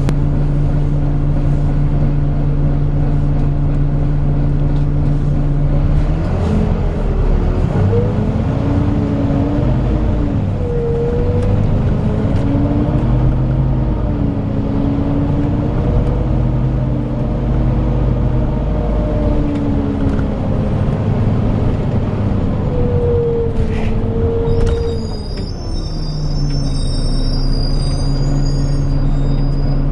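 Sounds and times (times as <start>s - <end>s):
bus diesel engine: 0.0s - 29.9s.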